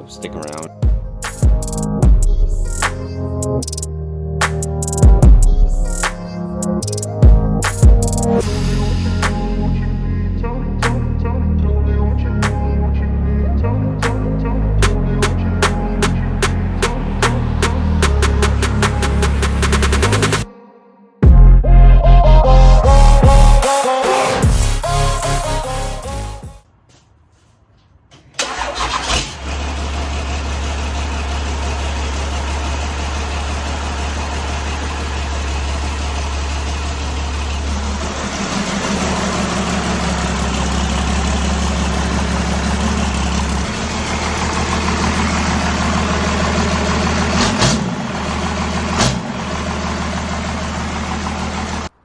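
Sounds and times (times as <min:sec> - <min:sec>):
truck engine idling: 0:00.0 - 0:20.5, 0:24.4 - 0:52.0.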